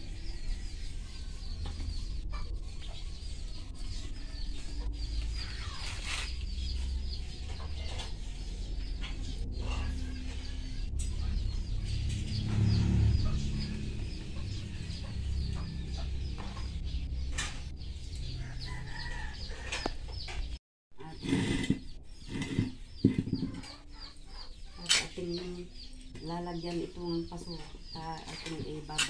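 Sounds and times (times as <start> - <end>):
chickens clucking and peeping: 0.0 - 29.0.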